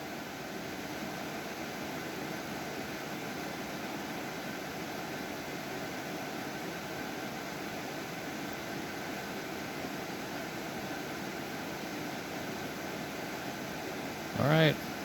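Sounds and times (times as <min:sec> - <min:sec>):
cooling fans rushing: 0:00.0 - 0:15.0.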